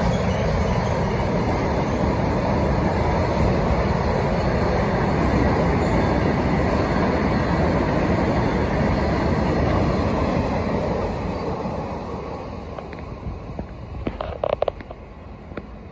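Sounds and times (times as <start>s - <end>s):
train wheels rumbling and clattering: 0.0s - 15.9s.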